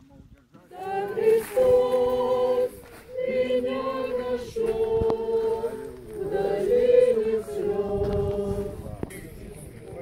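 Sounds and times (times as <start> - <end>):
group singing a hymn: 0.6 - 9.5.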